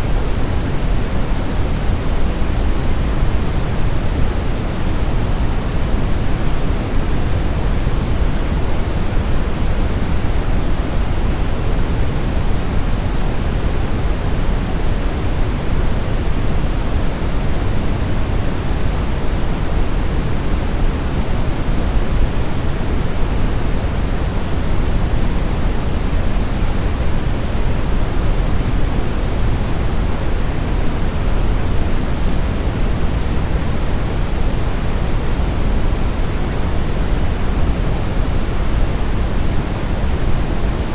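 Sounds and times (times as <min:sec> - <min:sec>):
brown noise hiss: 0:00.0 - 0:40.9.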